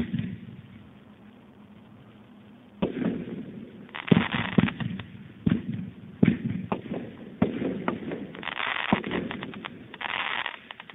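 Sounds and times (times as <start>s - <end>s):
fast crackling fireworks: 0.0s - 1.0s, 2.7s - 10.9s
fireworks sharp reports: 0.0s - 10.9s.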